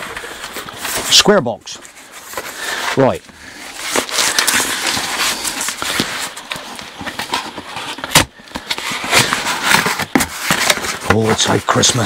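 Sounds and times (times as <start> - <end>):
cardboard flap scraping and crinkling: 0.0 - 12.0
cardboard lid tearing: 2.1 - 12.0.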